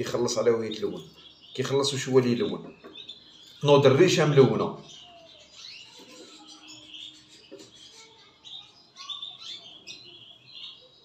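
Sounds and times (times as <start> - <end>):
canary chirping: 0.0 - 11.0.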